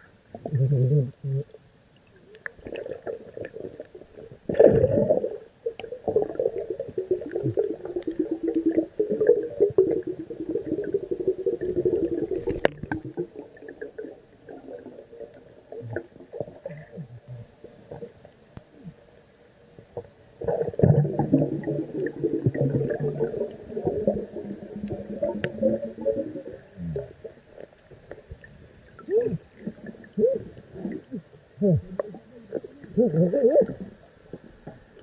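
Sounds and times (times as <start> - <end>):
muffled underwater water wash: 0.0 - 35.0
small underwater clicks and crackles: 0.0 - 35.0.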